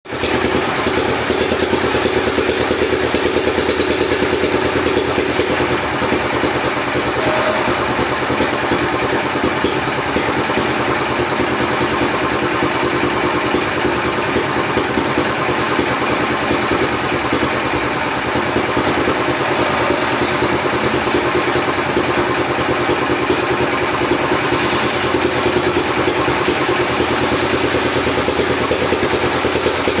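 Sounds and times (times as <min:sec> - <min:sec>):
engine-driven saw cutting wood: 0:03.5 - 0:30.0.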